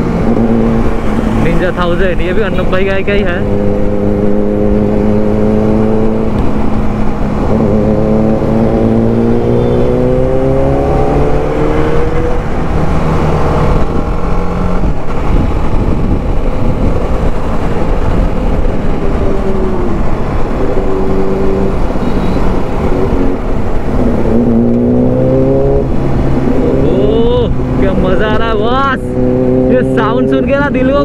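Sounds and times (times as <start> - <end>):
motorcycle engine accelerating: 0.0 - 31.0
riding noise rush: 0.0 - 31.0.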